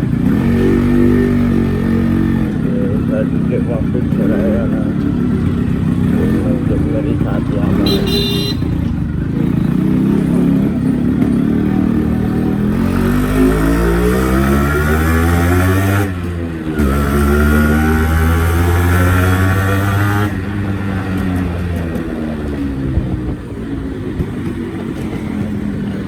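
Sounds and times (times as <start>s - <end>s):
two-stroke motorcycle accelerating: 0.0s - 26.0s.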